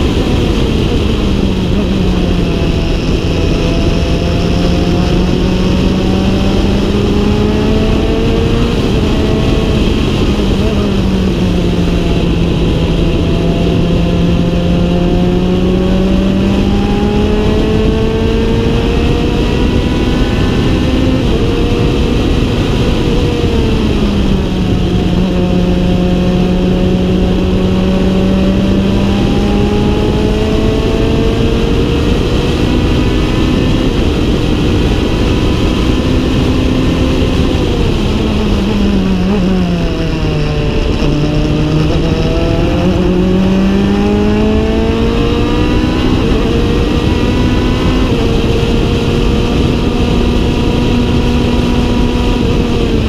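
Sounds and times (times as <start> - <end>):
race car engine pulling through gears: 0.0 - 53.0
wind noise: 0.0 - 53.0.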